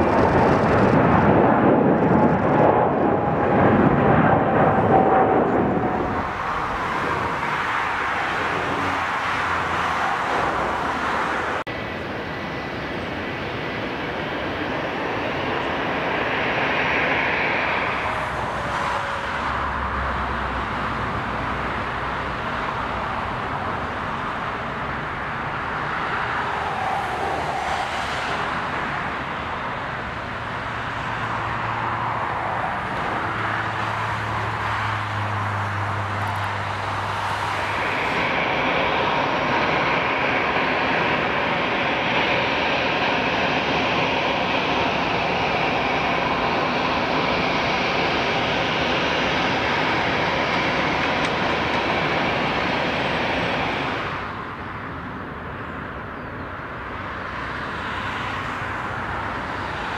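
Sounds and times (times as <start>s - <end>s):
jet engines rushing: 0.0s - 59.9s.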